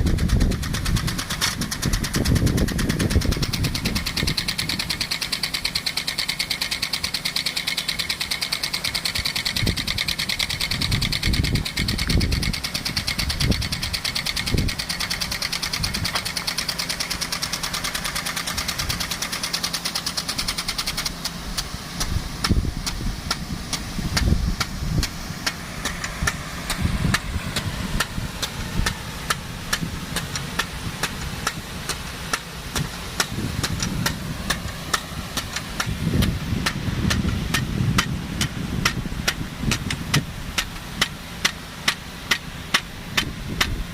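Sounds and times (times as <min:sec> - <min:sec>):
low rumbles: 0:00.0 - 0:06.1, 0:06.7 - 0:43.9
water jet hissing: 0:00.0 - 0:43.9
water pump engine running: 0:00.0 - 0:43.9.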